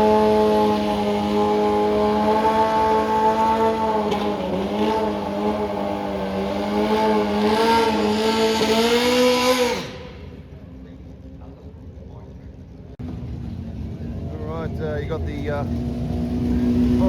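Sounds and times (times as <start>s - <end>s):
racing car engine at high revs: 0.0s - 11.3s, 12.6s - 17.0s.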